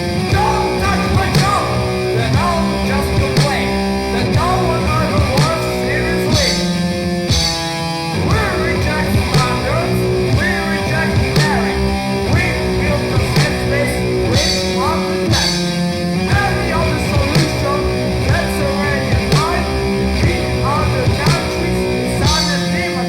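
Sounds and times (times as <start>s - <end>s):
distorted electric guitars: 0.0s - 23.0s
drums: 0.0s - 23.0s.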